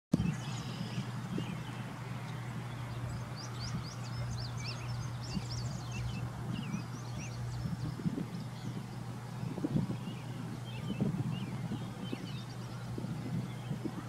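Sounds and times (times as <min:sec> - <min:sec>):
low steady hum: 0:00.2 - 0:14.0
small birds chirping: 0:00.2 - 0:14.0.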